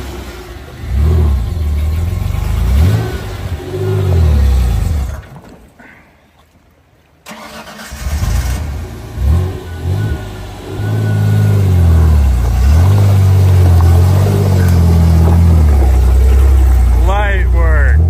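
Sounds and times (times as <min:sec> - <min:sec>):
truck engine revving: 0:00.0 - 0:05.4, 0:07.3 - 0:18.0.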